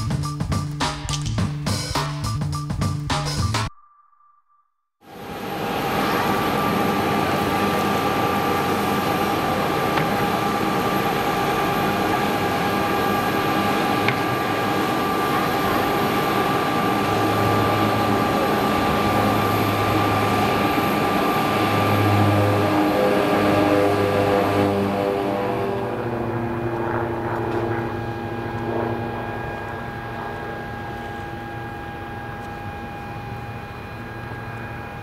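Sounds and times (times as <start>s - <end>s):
propeller aircraft engines droning: 0.0s - 3.6s, 5.1s - 35.0s
low hum: 3.4s - 35.0s.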